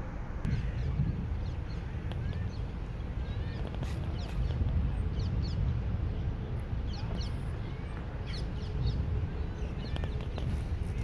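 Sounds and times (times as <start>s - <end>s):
birds calling: 0.4s - 11.0s.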